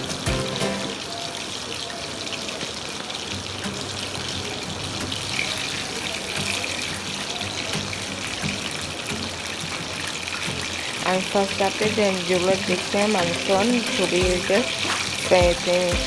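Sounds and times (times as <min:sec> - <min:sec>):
background music: 0:00.0 - 0:01.1, 0:03.4 - 0:16.0
chicken frying in oil: 0:00.0 - 0:16.0.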